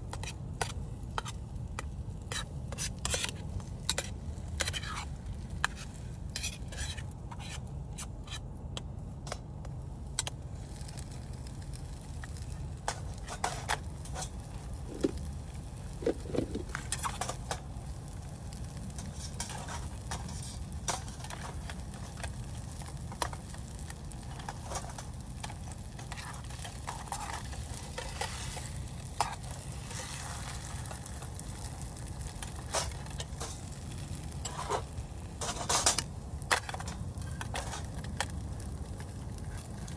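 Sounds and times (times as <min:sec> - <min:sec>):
egg sizzling in a pan: 0:00.0 - 0:39.9
metal spatula scraping a pan: 0:00.1 - 0:08.4, 0:10.7 - 0:38.0.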